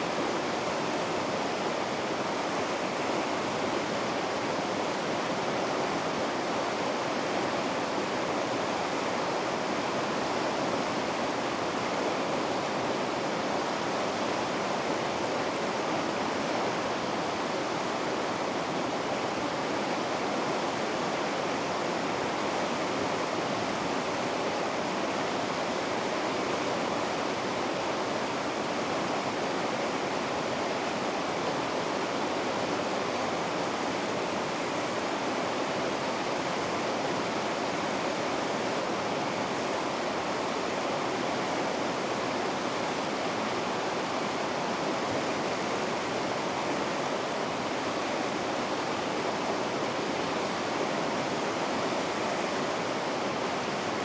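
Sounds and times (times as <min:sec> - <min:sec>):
white water rushing: 0:00.0 - 0:54.0.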